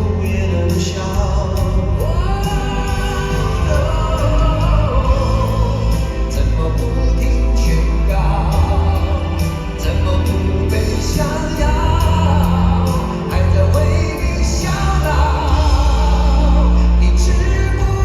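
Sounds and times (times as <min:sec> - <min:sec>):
live band music: 0:00.0 - 0:18.0
person singing: 0:00.0 - 0:18.0.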